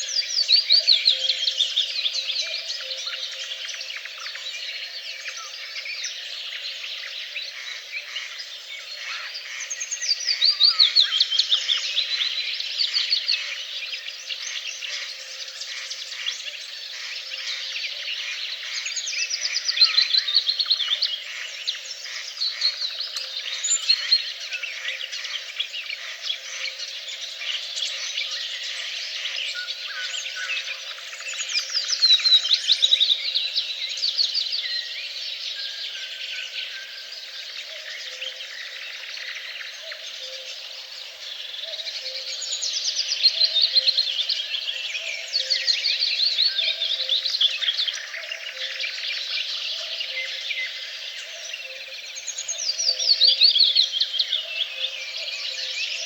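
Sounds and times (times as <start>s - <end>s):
chorus of songbirds: 0.0s - 56.0s.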